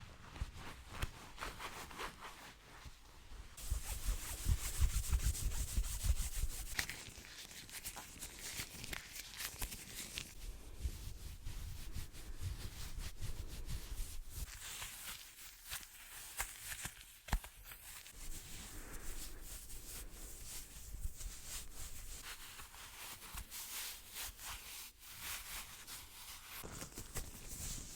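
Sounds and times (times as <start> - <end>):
hands rubbing together: 3.6 - 27.9.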